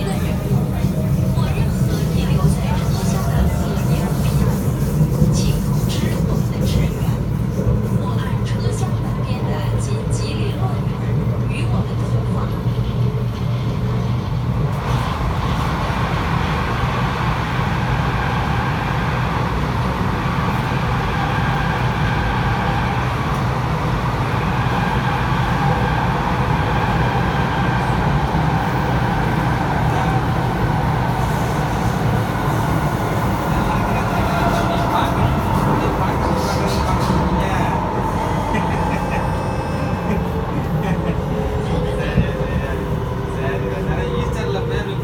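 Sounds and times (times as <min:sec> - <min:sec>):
train wheels rumbling: 0:00.0 - 0:45.0.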